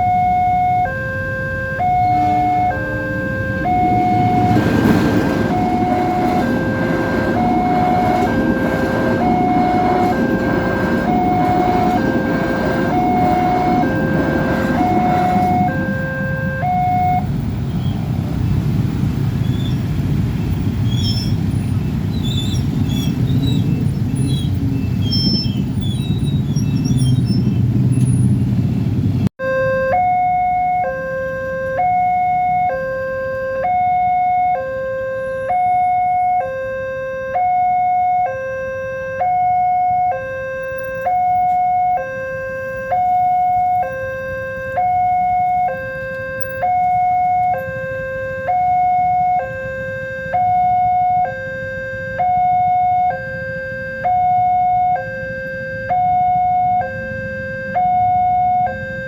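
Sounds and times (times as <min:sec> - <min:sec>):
two-tone crossing warning alarm: 0:00.0 - 0:18.1, 0:18.7 - 0:28.3, 0:29.4 - 0:59.0
low traffic rumble: 0:00.0 - 0:59.0.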